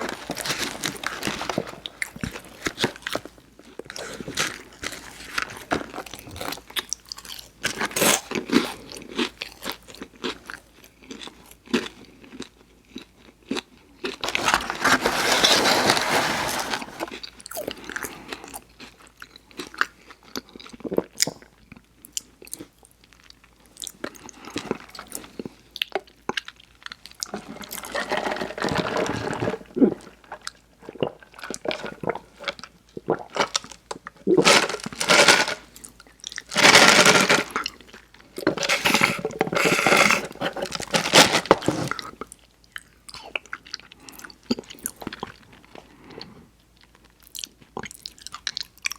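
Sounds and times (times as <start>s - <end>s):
chewing and crunching food: 0.0s - 48.9s.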